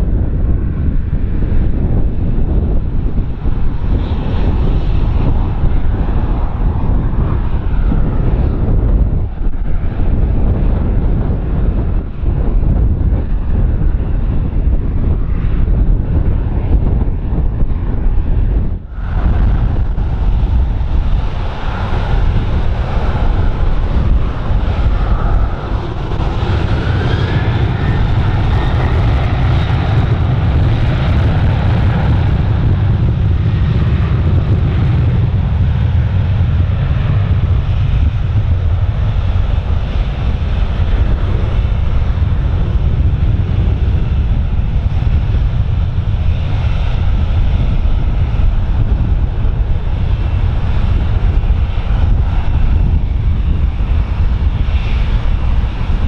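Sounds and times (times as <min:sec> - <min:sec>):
jet engine whine: 0:00.0 - 0:56.0
wind buffeting microphone: 0:00.0 - 0:56.0.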